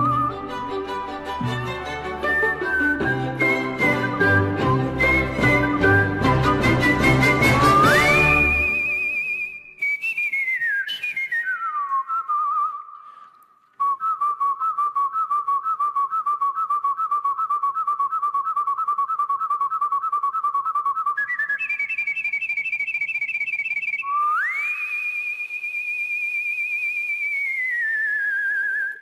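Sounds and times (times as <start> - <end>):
person whistling a melody: 0.0 - 0.9, 2.1 - 29.0.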